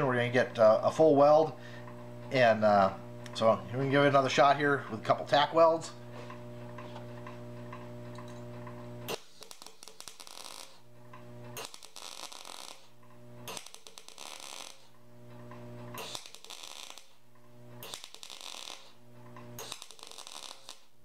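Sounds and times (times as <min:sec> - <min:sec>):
crackling welding arc: 0:00.0 - 0:21.0
welder hum: 0:00.0 - 0:21.0.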